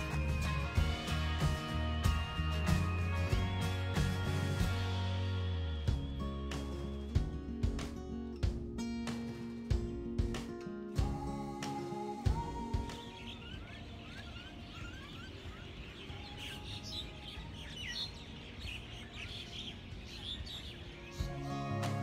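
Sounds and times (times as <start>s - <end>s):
birds chirping and twittering: 0.0s - 8.0s, 11.0s - 22.0s
music: 0.0s - 19.5s, 20.8s - 22.0s.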